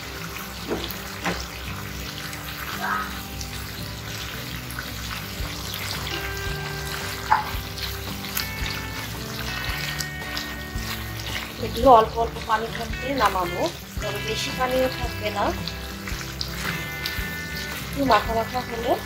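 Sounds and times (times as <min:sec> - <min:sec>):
curry simmering in a pan: 0:00.0 - 0:19.0
soft background music: 0:00.0 - 0:19.0.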